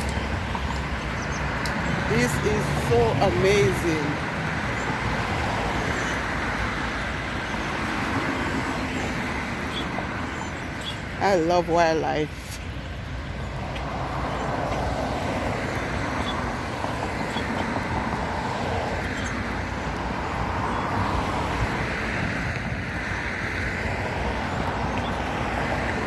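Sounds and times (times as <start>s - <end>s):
cars passing: 0.0s - 26.0s
road traffic rumble: 0.0s - 26.0s.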